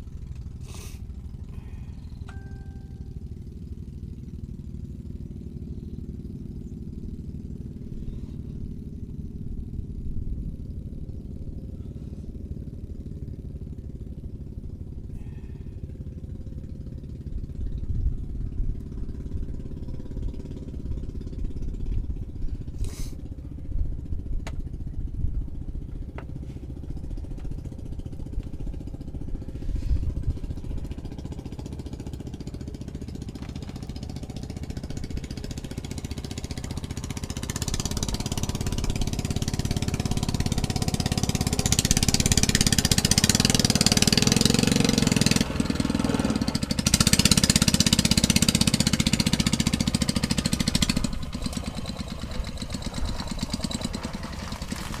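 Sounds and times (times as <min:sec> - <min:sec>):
small engine throbbing: 0:00.0 - 0:55.0.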